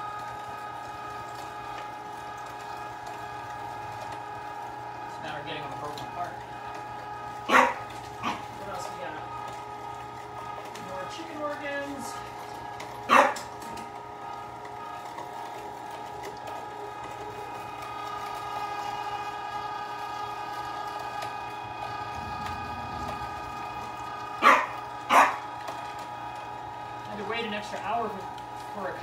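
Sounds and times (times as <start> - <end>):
electric meat grinder running: 0.0 - 29.0.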